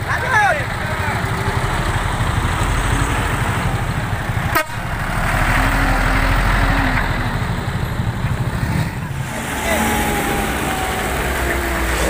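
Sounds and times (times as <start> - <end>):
diesel engine rumble passing: 0.0 - 12.0
road and tyre noise: 0.0 - 12.0.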